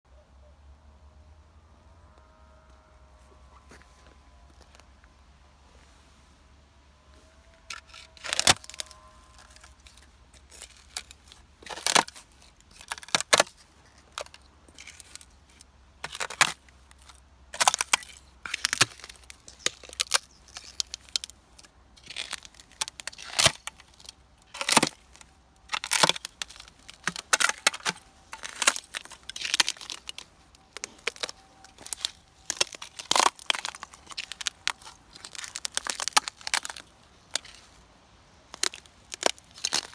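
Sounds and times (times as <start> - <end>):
ice cracking underfoot: 3.5 - 5.2, 7.5 - 39.9.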